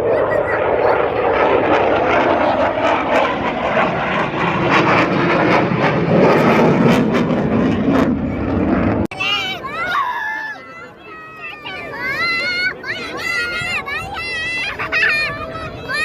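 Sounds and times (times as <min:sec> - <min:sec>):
jet aircraft roaring overhead: 0:00.0 - 0:16.0.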